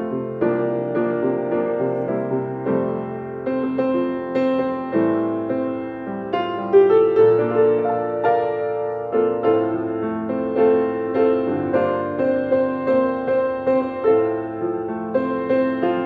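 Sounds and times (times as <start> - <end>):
solo grand piano: 0.0 - 16.0.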